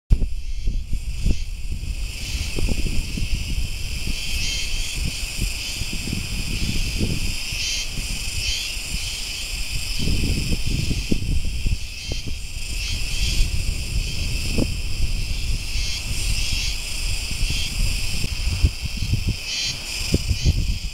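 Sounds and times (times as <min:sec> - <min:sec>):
cicadas singing: 0:00.1 - 0:20.9
wind on microphone: 0:00.1 - 0:20.9.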